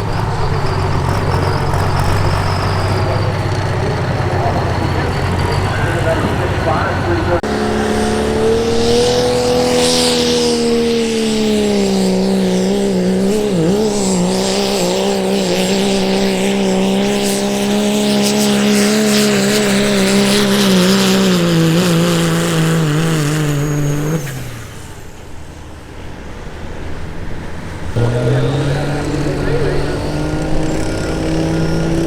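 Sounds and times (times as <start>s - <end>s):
diesel truck engine at full throttle: 0.0s - 32.0s.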